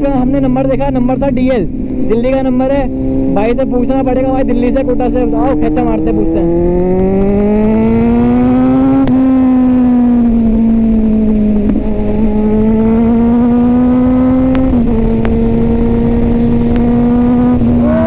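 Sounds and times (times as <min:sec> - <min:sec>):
motorcycle engine accelerating: 0:00.0 - 0:18.0
wind rumble on microphone: 0:00.0 - 0:18.0.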